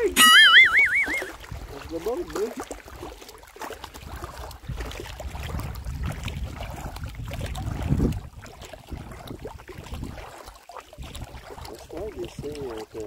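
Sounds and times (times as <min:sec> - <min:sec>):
waves slapping against canoe hull: 0:00.0 - 0:13.0.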